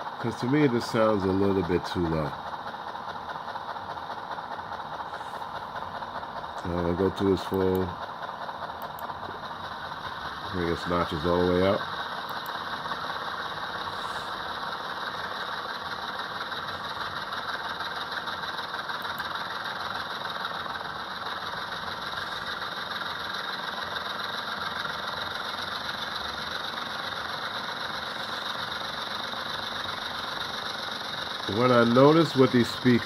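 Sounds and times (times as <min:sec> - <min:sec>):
model locomotive engine sound: 0:00.0 - 0:33.0.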